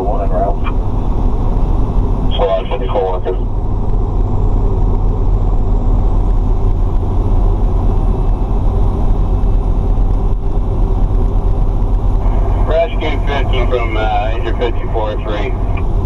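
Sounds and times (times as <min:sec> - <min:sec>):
diesel engine rumble: 0:00.0 - 0:16.0
road noise: 0:00.0 - 0:16.0.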